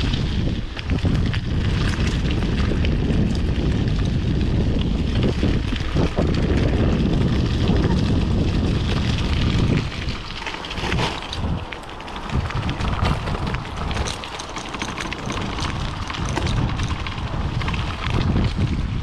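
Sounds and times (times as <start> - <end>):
bicycle tyres on dirt trail: 0.0 - 19.0
bike clicks and rattles: 0.0 - 19.0
wind buffeting microphone: 0.0 - 19.0.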